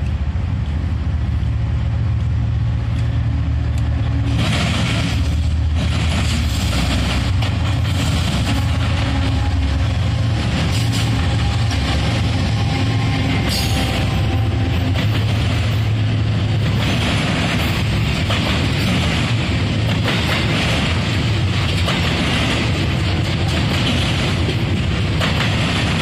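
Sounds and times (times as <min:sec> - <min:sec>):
diesel locomotives droning: 0:00.0 - 0:26.0
freight cars rolling on rails: 0:00.0 - 0:26.0
rush of passing train: 0:00.0 - 0:26.0.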